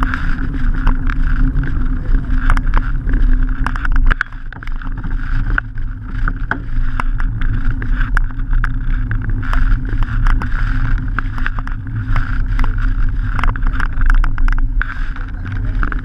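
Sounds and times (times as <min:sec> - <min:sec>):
bike clicks and rattles: 0:00.0 - 0:16.0
bike tyre rolling on tarmac: 0:00.0 - 0:16.0.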